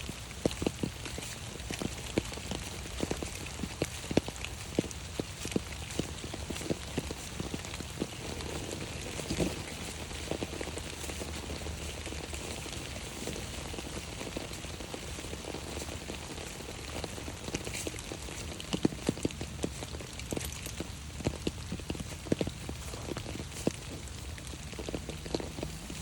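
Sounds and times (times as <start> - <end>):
rain hiss on umbrella: 0.0 - 26.0
raindrop taps: 0.0 - 26.0.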